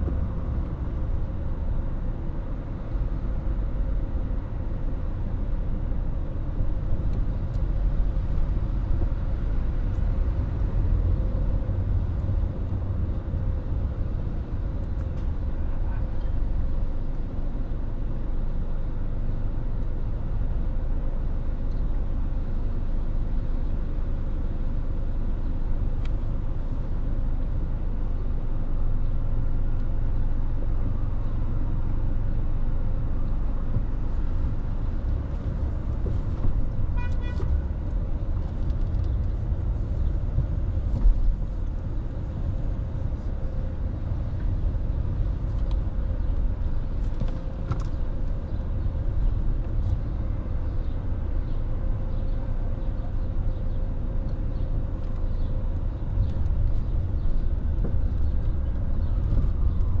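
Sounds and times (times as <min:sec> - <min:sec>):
car engine and road noise: 0:00.0 - 1:00.0
surrounding traffic: 0:00.0 - 1:00.0.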